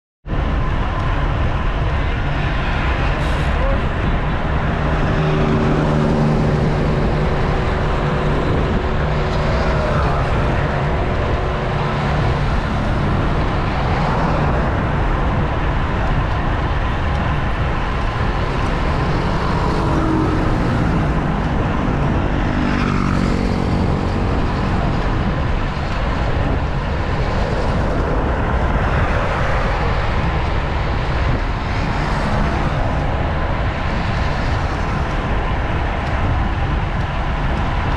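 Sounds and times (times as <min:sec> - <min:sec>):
wind rush: 0:00.2 - 0:37.9
vehicle engines passing: 0:00.3 - 0:37.9.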